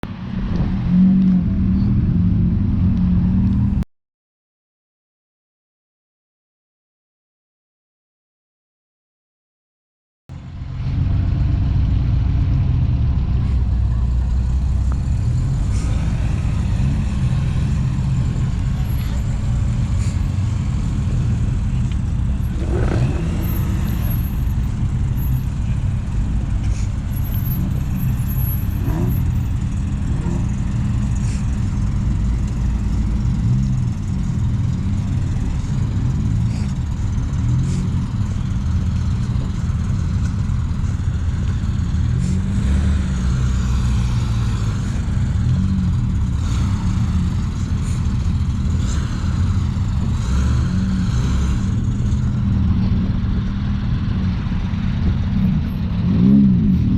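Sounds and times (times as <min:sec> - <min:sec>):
cars driving off: 0:00.1 - 0:03.8, 0:10.3 - 0:56.9.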